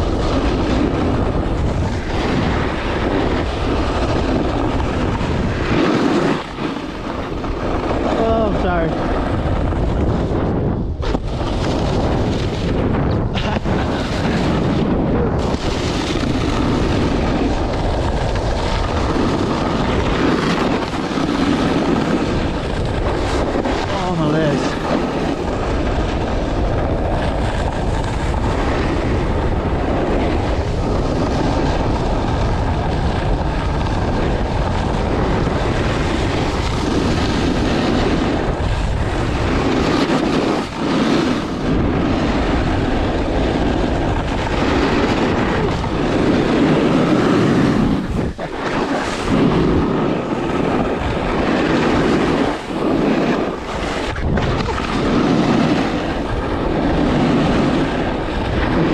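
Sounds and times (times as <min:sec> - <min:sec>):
snowboard scraping on snow: 0:00.0 - 0:58.9
wind on the microphone: 0:00.0 - 0:58.9.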